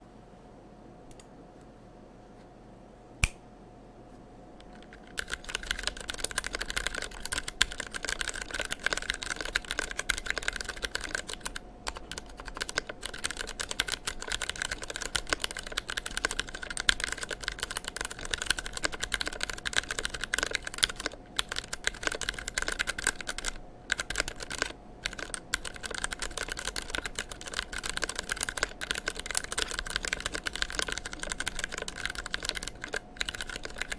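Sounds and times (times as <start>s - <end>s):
mechanical keyboard typing: 4.6s - 33.9s.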